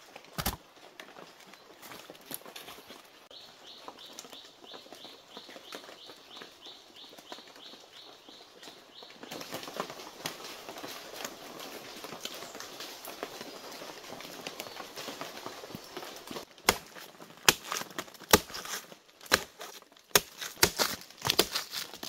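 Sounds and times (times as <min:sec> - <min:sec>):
footsteps crackling through dry leaves: 0:00.0 - 0:06.5, 0:09.0 - 0:22.0.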